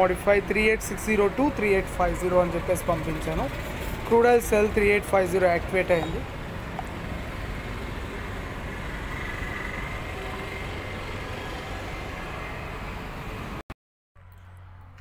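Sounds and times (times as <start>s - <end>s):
steady background noise: 0.0s - 13.6s.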